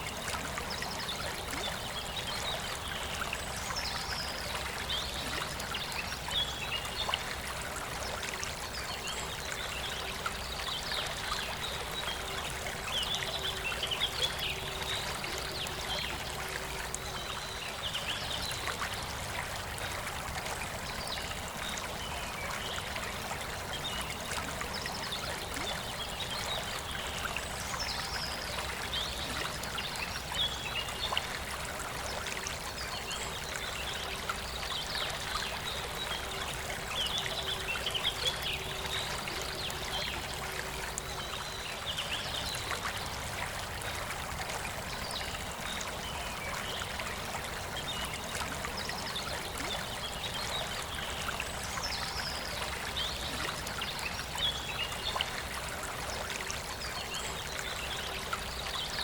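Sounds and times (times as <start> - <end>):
river flowing: 0.0 - 59.0.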